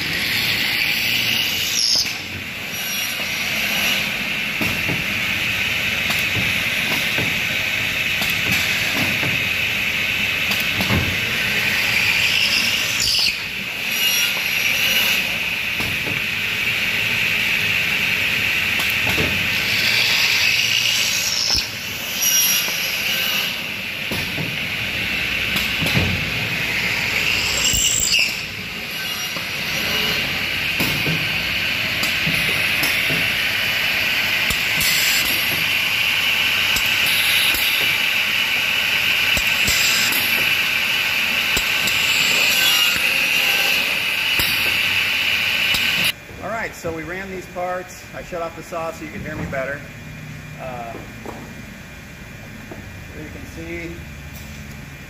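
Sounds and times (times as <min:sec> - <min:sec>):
saw running high-pitched: 0:00.0 - 0:10.5, 0:11.2 - 0:15.7, 0:16.4 - 0:46.2.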